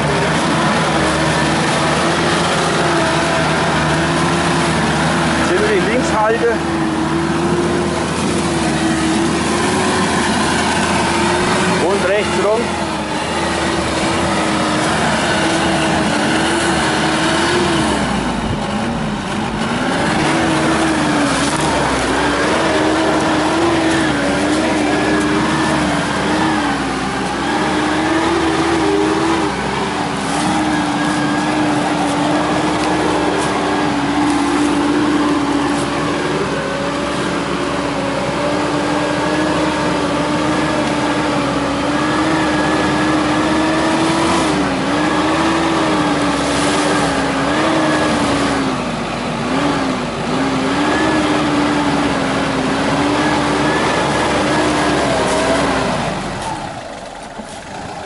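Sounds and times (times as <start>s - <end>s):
car engine running under load: 0.0s - 58.0s.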